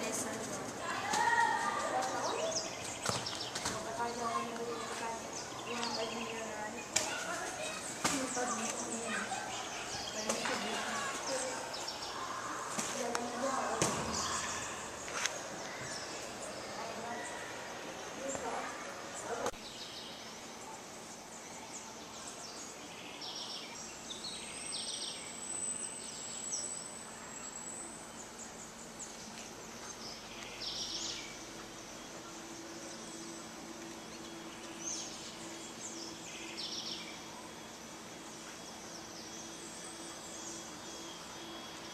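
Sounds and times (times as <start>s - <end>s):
faint steady hum: 0.0s - 41.9s
steady background noise: 0.0s - 41.9s.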